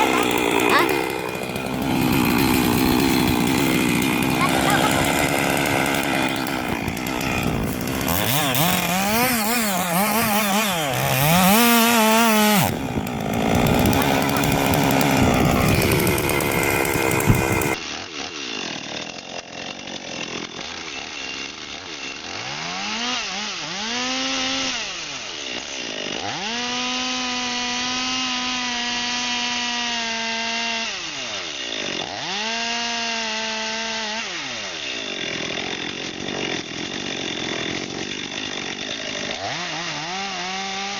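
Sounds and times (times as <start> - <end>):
chainsaws revving and cutting: 0.0 - 40.9.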